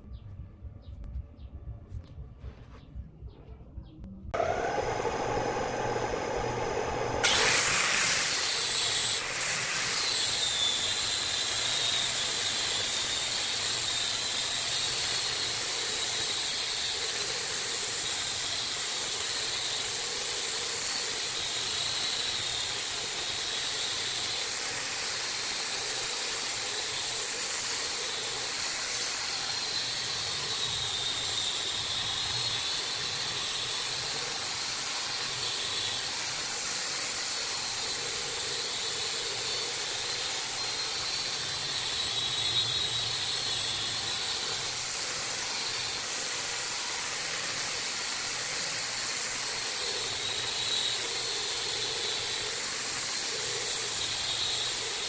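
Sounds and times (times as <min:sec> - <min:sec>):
angle grinder sanding wood: 0:04.4 - 0:55.0.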